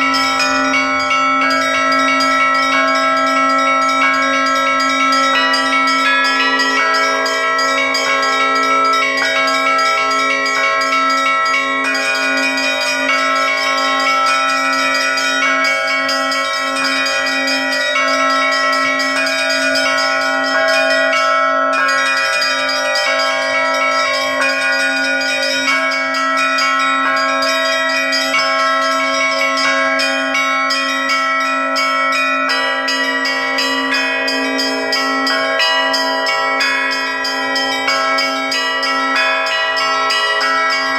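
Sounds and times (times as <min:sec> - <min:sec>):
middle church bells: 0:00.0 - 0:40.9
steady low bell tone: 0:00.0 - 0:40.9.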